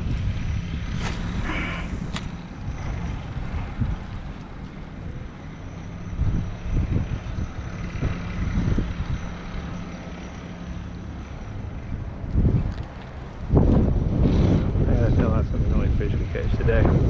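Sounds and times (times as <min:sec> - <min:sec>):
vehicle engine rumbling: 0:00.0 - 0:17.0
wind buffeting microphone: 0:00.0 - 0:17.0.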